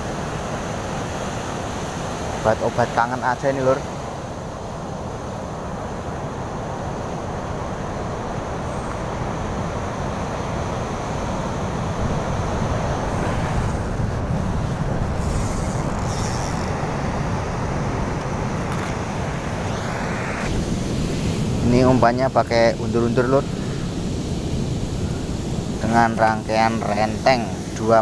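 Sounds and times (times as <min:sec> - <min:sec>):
wind on microphone: 0:00.0 - 0:27.8
breaking surf: 0:00.0 - 0:28.0.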